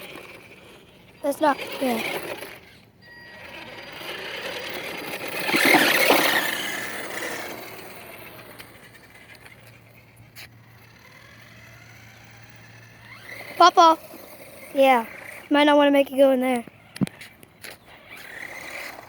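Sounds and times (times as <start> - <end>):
toy truck driving by: 0.0 - 19.0.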